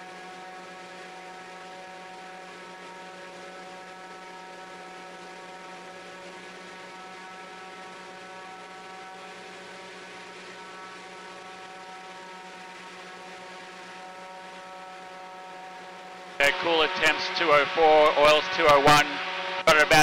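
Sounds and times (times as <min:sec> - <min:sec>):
aircraft engine droning in cockpit: 0:00.0 - 0:20.0.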